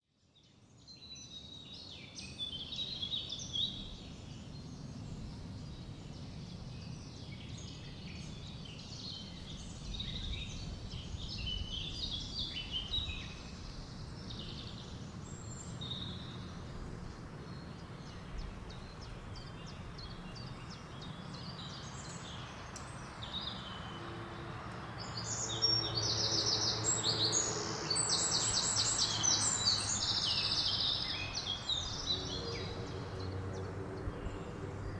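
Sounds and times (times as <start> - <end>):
low rumble of wind: 0.7 - 34.9.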